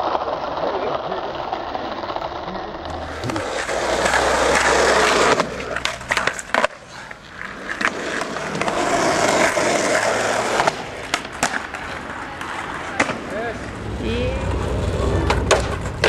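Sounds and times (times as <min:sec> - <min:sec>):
skateboard clacks: 0:00.0 - 0:13.7, 0:14.4 - 0:16.0
skateboard wheels rolling on asphalt: 0:00.0 - 0:16.0.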